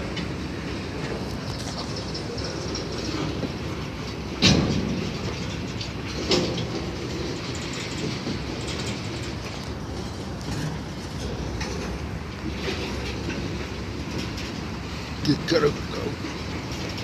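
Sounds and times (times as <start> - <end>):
freight train wheels clicking: 0.0 - 17.0.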